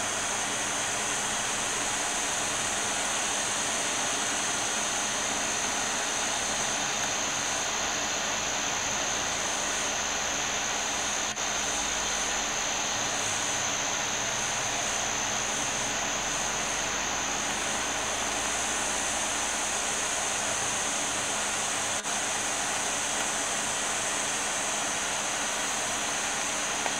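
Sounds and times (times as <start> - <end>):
steady rushing hiss: 0.0 - 26.9.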